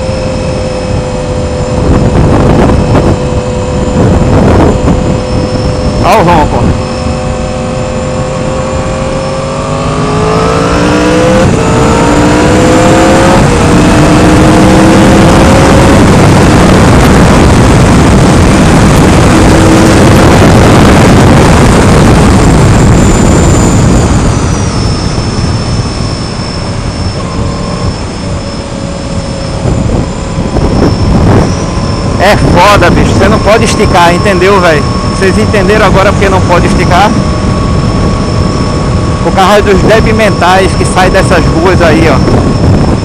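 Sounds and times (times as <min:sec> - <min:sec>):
motorcycle accelerating hard: 0:00.0 - 0:43.0.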